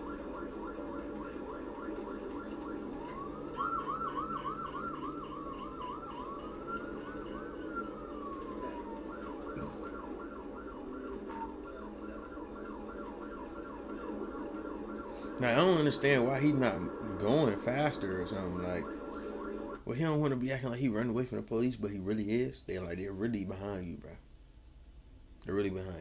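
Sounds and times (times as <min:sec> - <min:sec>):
police siren: 0:00.0 - 0:24.1.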